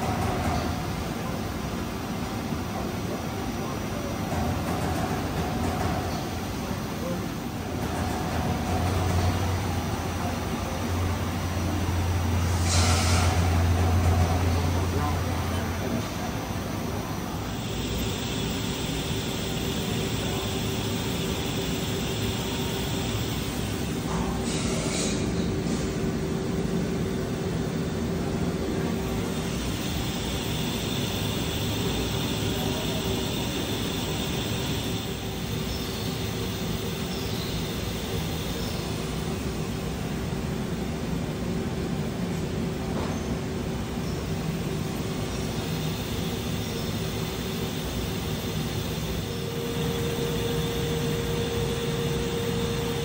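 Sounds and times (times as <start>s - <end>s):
machine spindle whirring hum: 0.0s - 53.0s.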